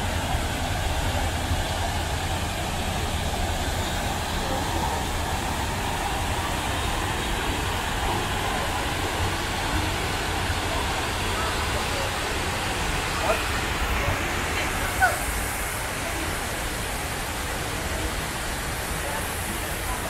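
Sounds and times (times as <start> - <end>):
low city rumble: 0.0 - 20.0
water cascading down stone walls: 0.0 - 20.0.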